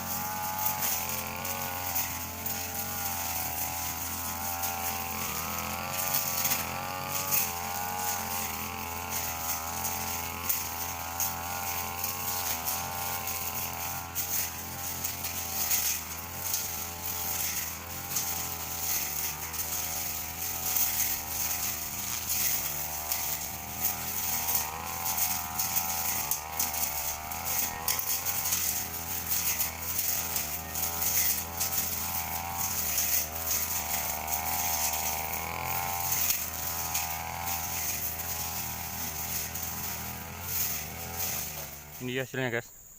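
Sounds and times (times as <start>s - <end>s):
brush cutter engine running: 0.0s - 42.7s
crackling hiss of cutting grass: 0.0s - 42.9s.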